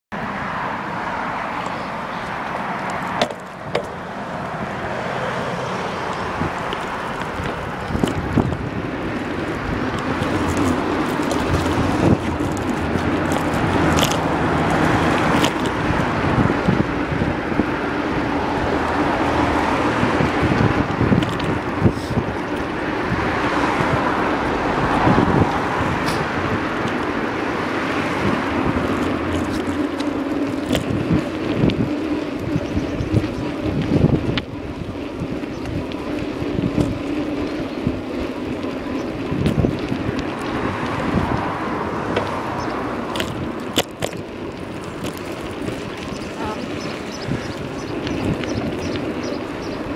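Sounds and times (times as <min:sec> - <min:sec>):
road traffic passing: 0:00.1 - 0:49.9
wind buffeting microphone: 0:00.5 - 0:49.9.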